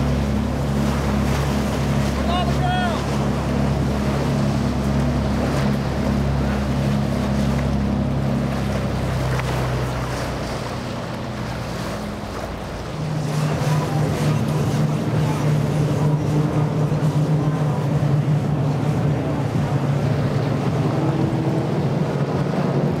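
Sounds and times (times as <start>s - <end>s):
boat engines droning: 0.0s - 23.0s
water rushing along hull: 0.0s - 23.0s
wind on microphone: 3.2s - 23.0s.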